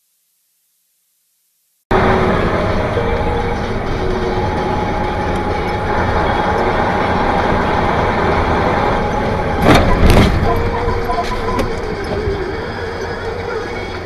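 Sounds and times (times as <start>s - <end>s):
faint steady whining tones: 0.7s - 14.0s
vehicle engine rumble: 1.9s - 14.0s.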